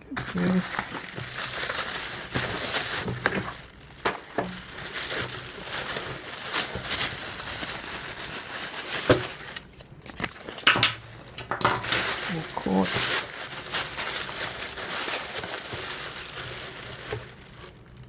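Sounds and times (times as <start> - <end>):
packaging crinkling and rustling: 0.1 - 18.0.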